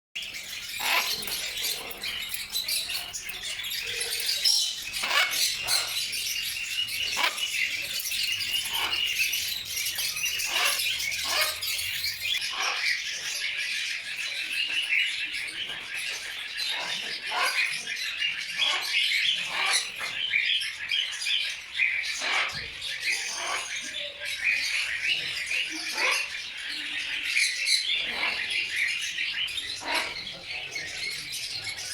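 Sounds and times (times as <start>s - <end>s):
parrots squawking: 0.2s - 13.4s, 15.6s - 20.4s, 22.0s - 31.9s
high chatter of birds: 0.2s - 31.9s.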